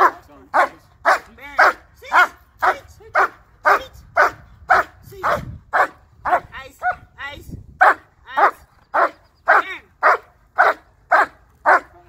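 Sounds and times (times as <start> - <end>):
dog barking: 0.0 - 7.0, 7.8 - 12.0.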